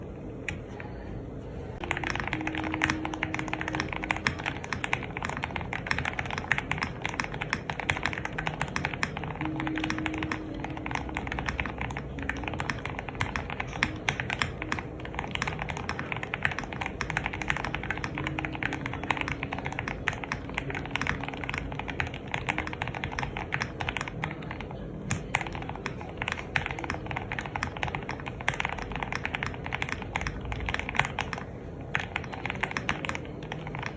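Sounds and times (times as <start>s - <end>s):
fast typing on mechanical keyboard: 1.8s - 33.9s.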